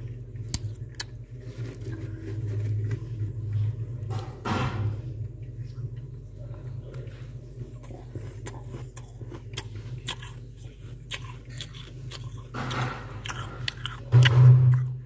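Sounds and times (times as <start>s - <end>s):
freezer frost crunching: 0.0s - 4.4s, 6.5s - 15.0s
steady low hum: 0.0s - 15.0s.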